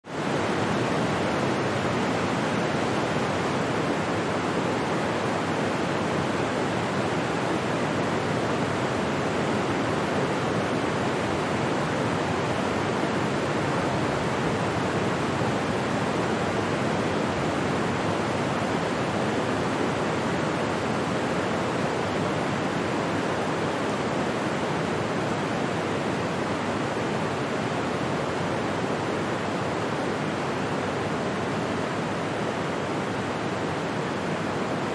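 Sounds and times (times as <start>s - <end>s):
steady rushing noise: 0.1s - 34.9s.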